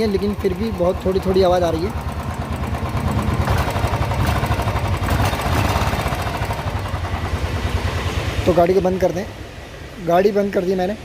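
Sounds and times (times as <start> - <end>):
motorcycle engine idling: 0.0 - 9.7.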